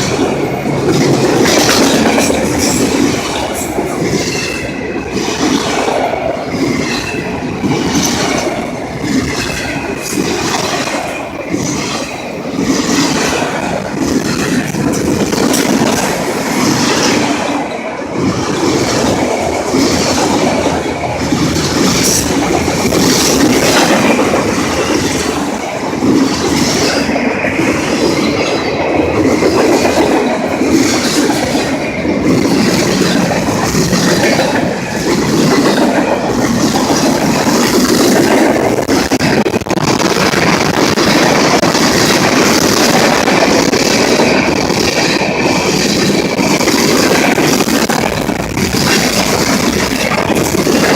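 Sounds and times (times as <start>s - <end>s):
train wheels clattering over rails: 0.0s - 50.9s.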